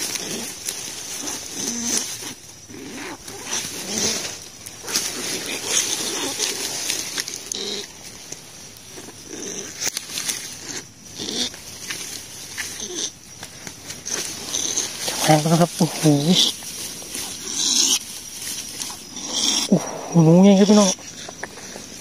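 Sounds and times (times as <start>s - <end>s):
dry straw rustling: 0.0s - 22.0s.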